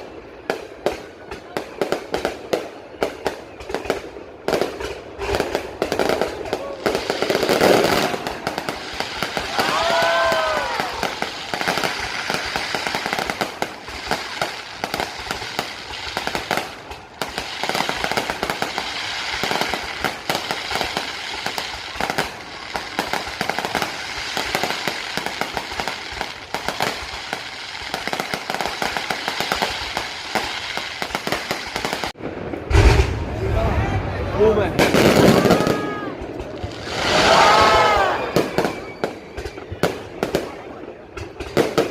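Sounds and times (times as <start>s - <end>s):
fireworks crackling and banging: 0.0s - 41.9s.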